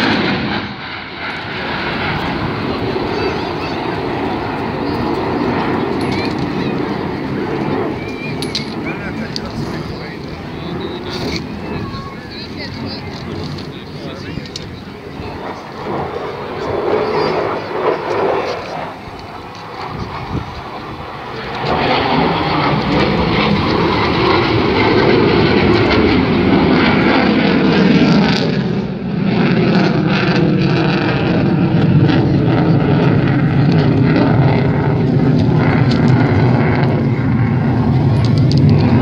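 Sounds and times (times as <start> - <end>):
jet engine flying past: 0.0 - 39.0.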